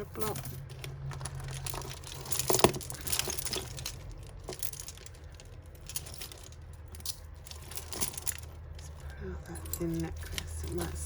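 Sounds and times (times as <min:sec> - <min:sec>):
jewellery clinking and rattling: 0:00.0 - 0:11.0.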